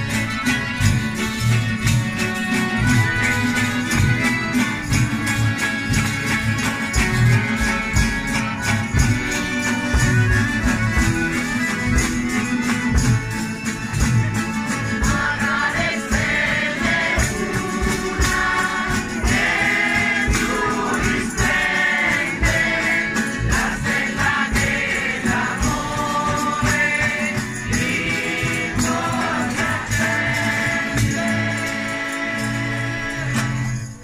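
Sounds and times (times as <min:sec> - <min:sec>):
accordion: 0:00.0 - 0:34.0
acoustic guitar: 0:00.0 - 0:34.0
crowd singing together: 0:00.0 - 0:34.0
tambourine jingles: 0:00.0 - 0:34.0.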